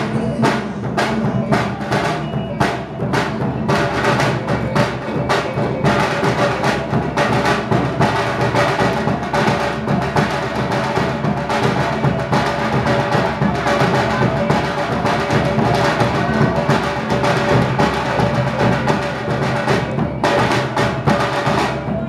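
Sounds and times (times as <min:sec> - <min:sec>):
fast drum and percussion strokes: 0:00.0 - 0:22.0.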